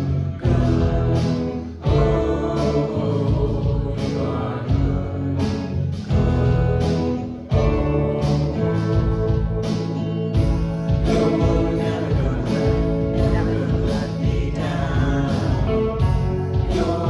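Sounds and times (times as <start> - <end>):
worship band with singers: 0.0 - 17.0.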